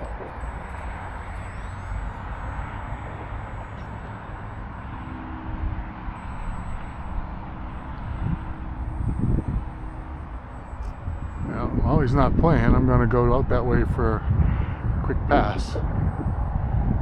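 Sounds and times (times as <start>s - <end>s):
faint steady hum: 0.0s - 17.0s
gusty wind buffeting microphone: 0.0s - 17.0s.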